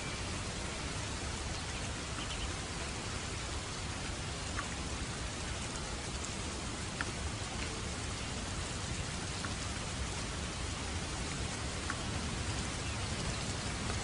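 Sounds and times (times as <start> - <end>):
raindrops ticking: 0.0 - 14.0
steady rain hiss: 0.0 - 14.0.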